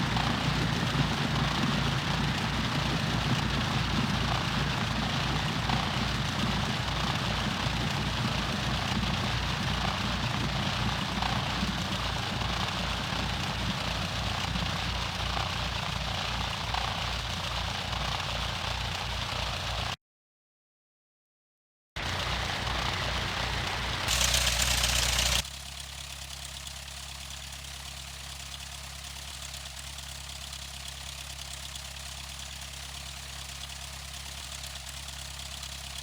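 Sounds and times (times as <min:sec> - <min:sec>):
light aircraft engine droning: 0:00.0 - 0:19.9, 0:22.0 - 0:36.0.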